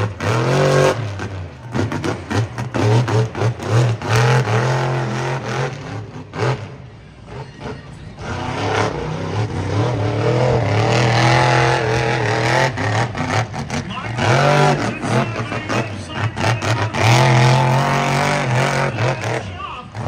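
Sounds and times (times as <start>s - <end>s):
truck engine revving hard: 0.0s - 20.0s.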